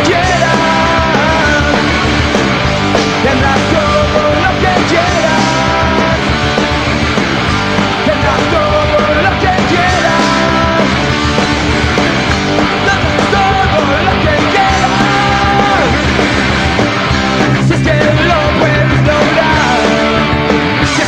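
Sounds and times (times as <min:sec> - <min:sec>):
punk rock band playing live: 0:00.0 - 0:21.0.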